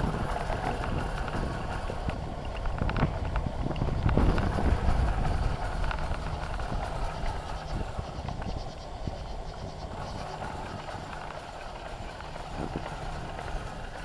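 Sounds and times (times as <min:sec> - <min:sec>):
bicycle rattling clicks and knocks: 0:00.0 - 0:14.0
bicycle tyre rumble: 0:00.0 - 0:14.0.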